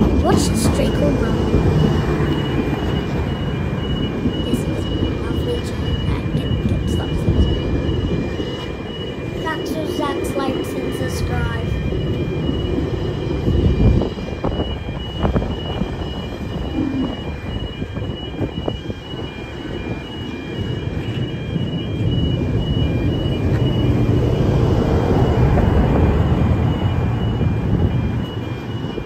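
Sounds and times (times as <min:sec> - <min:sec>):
crossing alarm bells two-tone: 0:00.0 - 0:29.0
train wheels rumbling on rails: 0:00.0 - 0:29.0.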